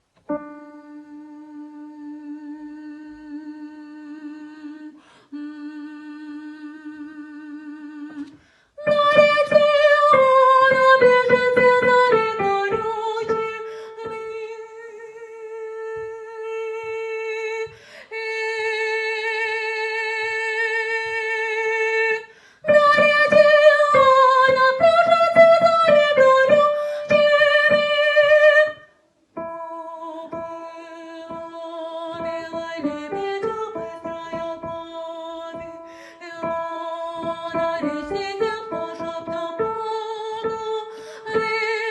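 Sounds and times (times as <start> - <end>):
high voice singing slowly: 0.3 - 41.9.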